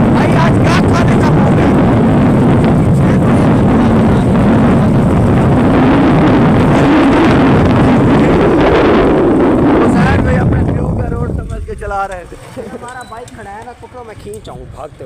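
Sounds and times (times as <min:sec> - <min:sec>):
motorcycle engine droning: 0:00.0 - 0:15.0
wind buffeting microphone: 0:00.0 - 0:15.0.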